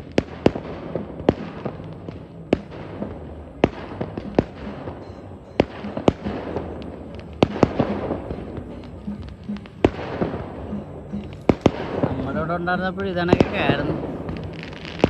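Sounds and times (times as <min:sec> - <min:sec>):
firecrackers banging: 0:00.0 - 0:15.0.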